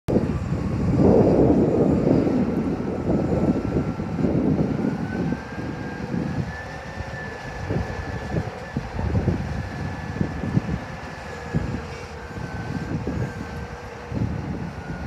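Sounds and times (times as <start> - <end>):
diesel engine rumbling: 0.1 - 15.0
thin whine: 0.1 - 15.0.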